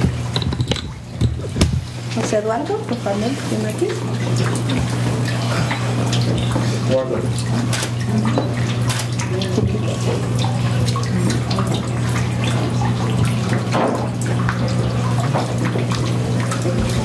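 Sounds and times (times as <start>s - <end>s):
small water drips: 2.1s - 17.0s.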